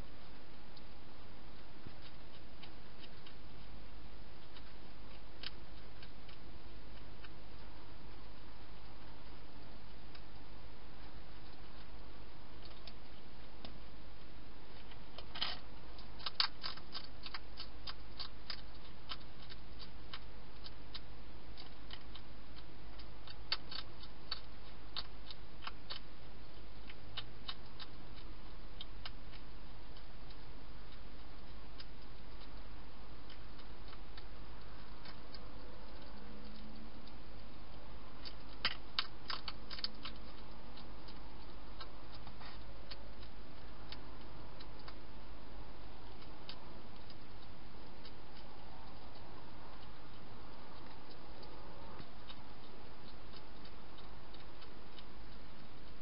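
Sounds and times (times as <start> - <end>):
hedgehog crunching dry food: 0.0 - 56.0
low electrical hum: 0.0 - 56.0.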